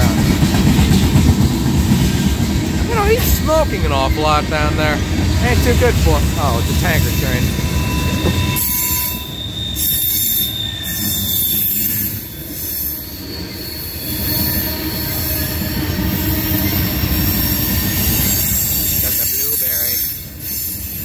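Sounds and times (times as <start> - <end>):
steel wheels squealing on rails: 0.0 - 21.0
train cars rumbling past: 0.0 - 21.0.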